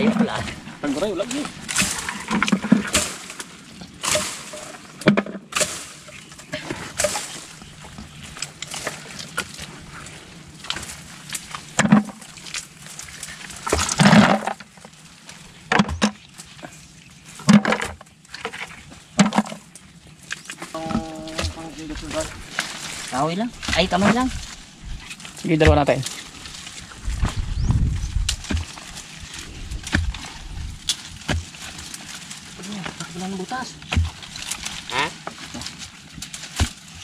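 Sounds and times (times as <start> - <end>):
hands squelching in mud and water: 0.0 - 37.0.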